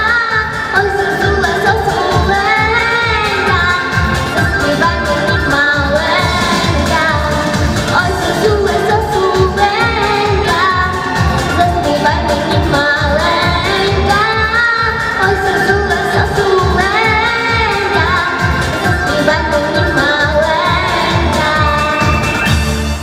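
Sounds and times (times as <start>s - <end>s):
girl singing into microphone: 0.0s - 22.3s
pop backing track: 0.0s - 23.0s.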